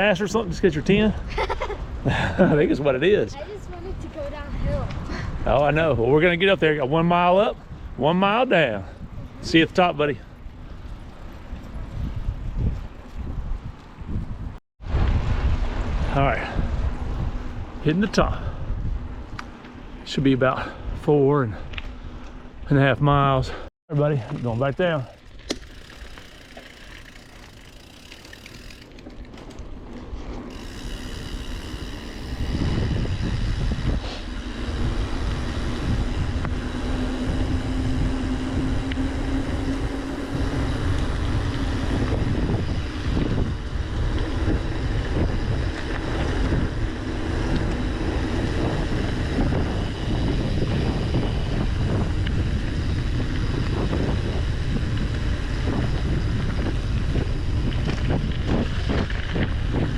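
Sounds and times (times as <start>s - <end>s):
wind buffeting microphone: 0.0s - 28.9s, 29.5s - 59.9s.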